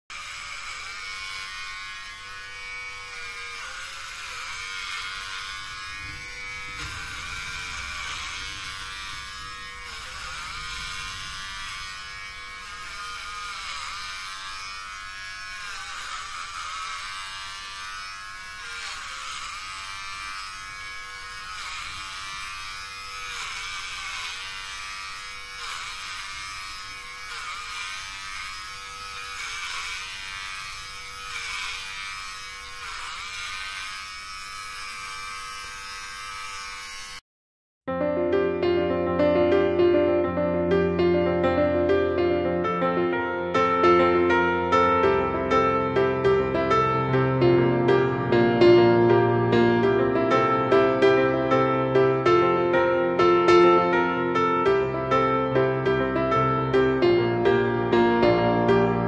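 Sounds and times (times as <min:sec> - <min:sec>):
electric hair clippers buzzing: 0:00.1 - 0:37.2, 0:39.2 - 0:59.0.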